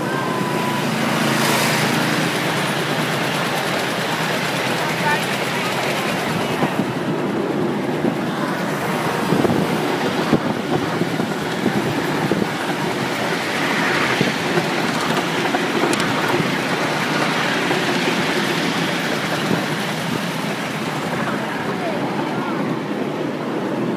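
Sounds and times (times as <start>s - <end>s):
train wheels on rails: 0.0s - 23.9s.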